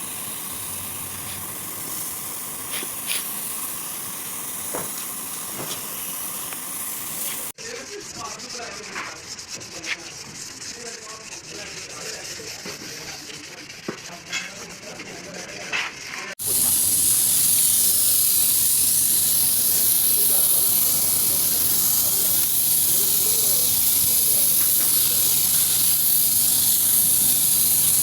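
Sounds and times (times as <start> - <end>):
compressed-air tool hissing: 0.0 - 15.3, 16.3 - 28.0.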